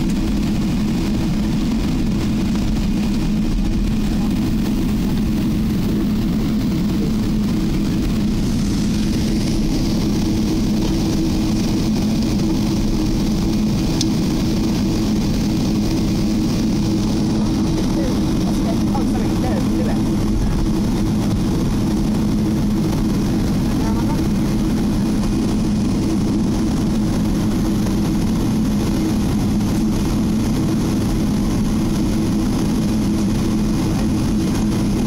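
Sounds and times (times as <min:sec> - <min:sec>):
aircraft cabin engine hum: 0:00.0 - 0:35.0.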